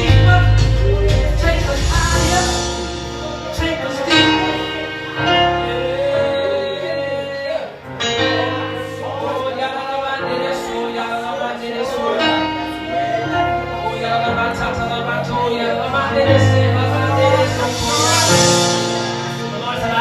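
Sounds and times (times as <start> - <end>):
held keyboard chords: 0.0 - 20.0
wordless singing: 0.0 - 20.0.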